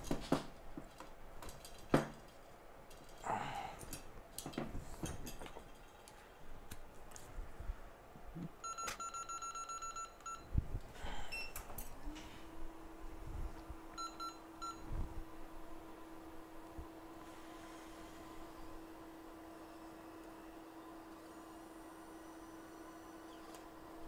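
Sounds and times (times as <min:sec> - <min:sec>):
low hum: 0:02.4 - 0:24.0.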